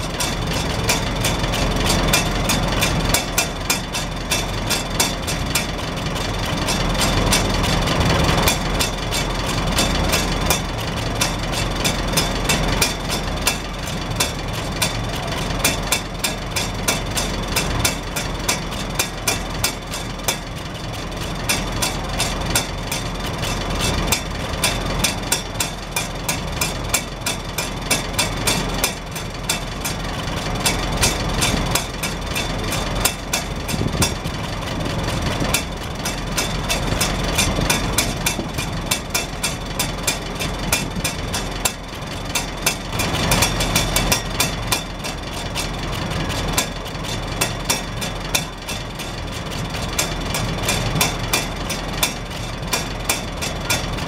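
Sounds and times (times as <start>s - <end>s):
exhaust flap fluttering: 0.0s - 54.0s
tractor engine idling: 0.0s - 54.0s.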